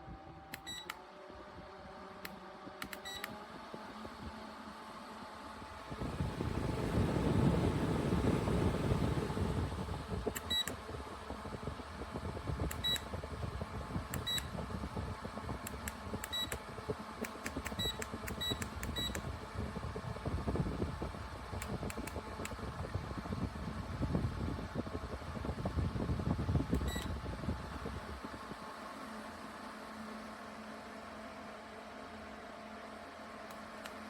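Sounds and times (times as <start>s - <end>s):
fan airflow rushing: 0.0s - 34.0s.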